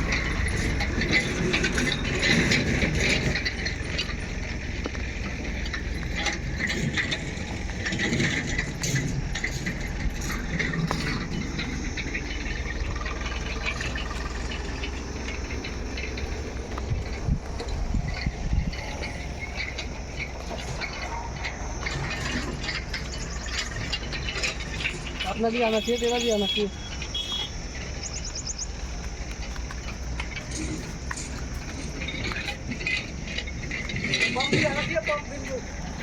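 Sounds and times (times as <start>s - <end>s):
knocks and rattles: 0.0s - 36.0s
low construction rumble: 0.0s - 36.0s.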